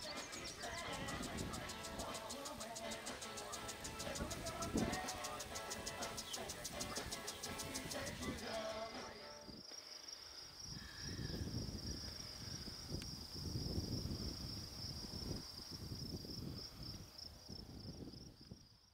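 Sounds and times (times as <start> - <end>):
wind rumbling on microphone: 0.0 - 2.8, 3.6 - 8.5, 10.7 - 18.9
insects trilling: 0.0 - 18.9.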